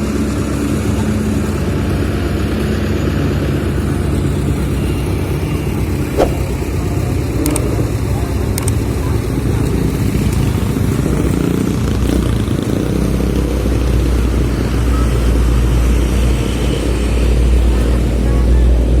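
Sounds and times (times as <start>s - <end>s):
paving machinery deep rumble: 0.0s - 19.0s.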